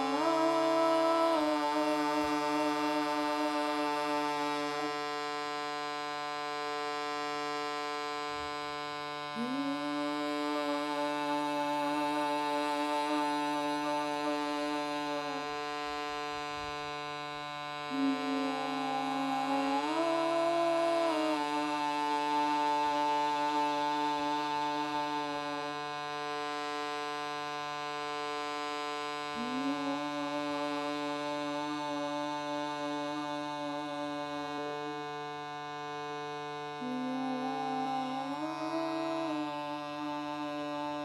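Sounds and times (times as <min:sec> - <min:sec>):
person singing long notes: 0:00.0 - 0:41.0
shruti box reed drone: 0:00.0 - 0:41.0.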